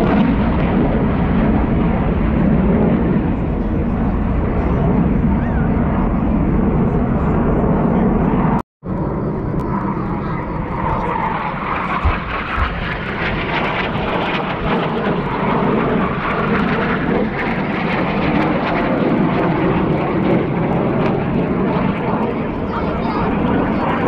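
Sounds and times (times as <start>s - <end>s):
airplane engine noise: 0.0s - 24.0s.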